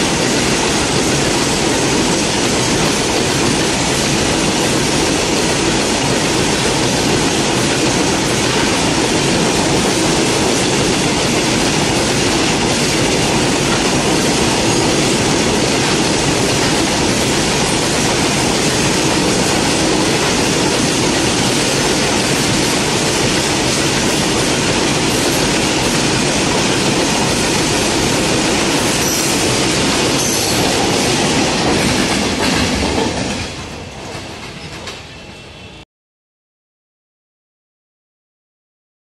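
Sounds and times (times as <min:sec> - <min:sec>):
freight train wheels rumbling on rails: 0:00.0 - 0:35.8.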